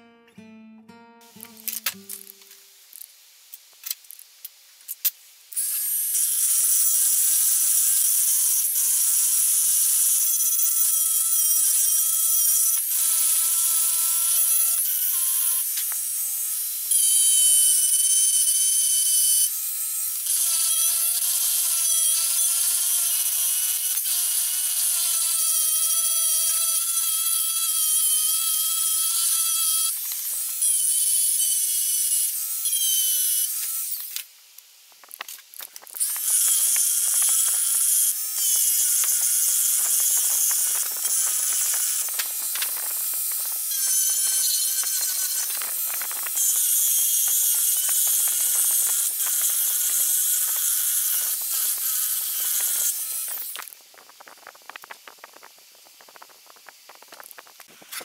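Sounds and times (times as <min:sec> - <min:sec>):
rotary tool grinding metal: 0:05.5 - 0:34.3, 0:35.0 - 0:58.0.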